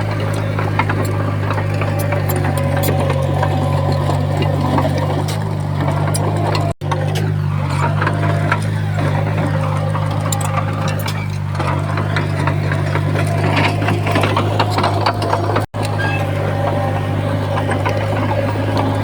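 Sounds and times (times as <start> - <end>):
bulldozer diesel engine running: 0.0 - 19.0
clanks and rattles: 0.0 - 19.0.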